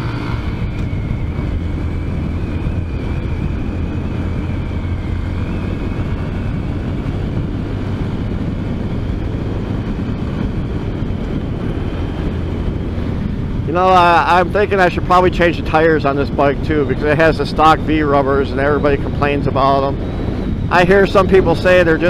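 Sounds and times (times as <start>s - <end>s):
motorcycle engine cruising: 0.0s - 22.0s
wind rushing over microphone: 0.0s - 22.0s.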